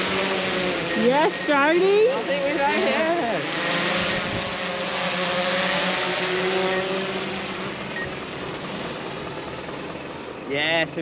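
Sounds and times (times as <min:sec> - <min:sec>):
drone motors buzzing: 0:00.0 - 0:11.0.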